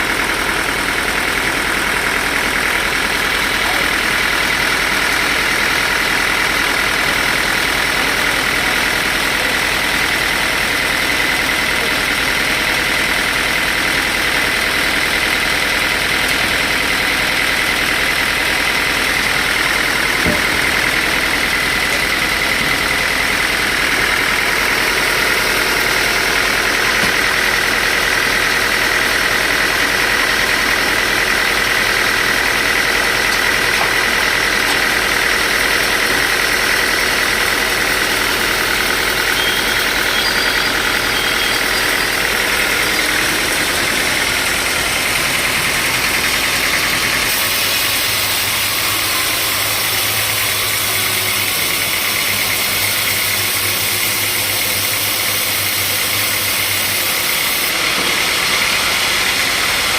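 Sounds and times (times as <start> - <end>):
high machine whine: 0.0 - 59.9
sawmill machinery running: 0.0 - 59.9.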